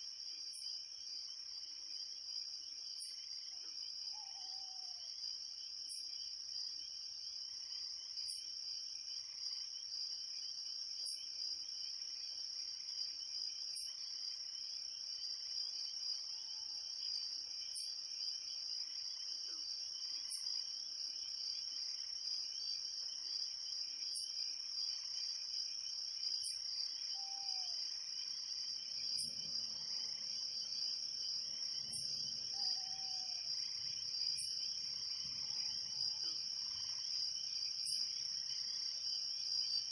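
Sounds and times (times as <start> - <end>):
crickets chirping chorus: 0.0 - 39.9.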